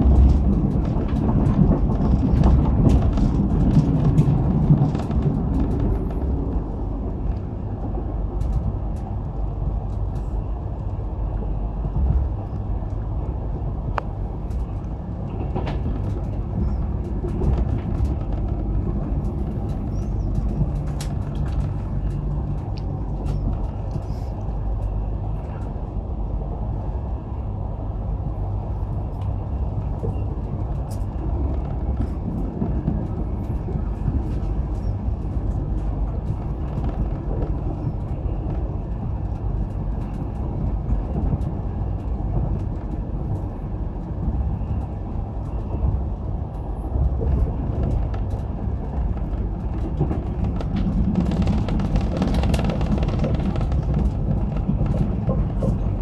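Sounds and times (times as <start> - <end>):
train rumbling at speed: 0.0 - 56.0.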